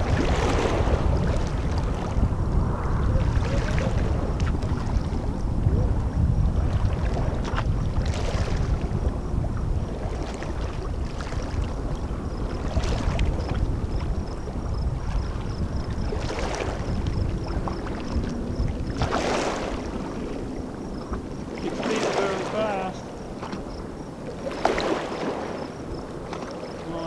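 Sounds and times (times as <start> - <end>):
oars splashing in water: 0.0 - 2.1, 6.6 - 27.0
wind rumble on microphone: 0.0 - 27.0.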